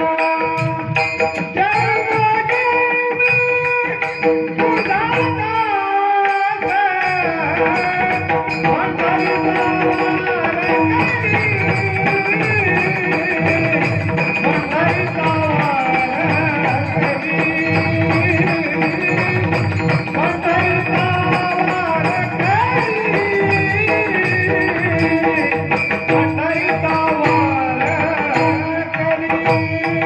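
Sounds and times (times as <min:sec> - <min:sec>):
hand drum beat: 0:00.0 - 0:30.0.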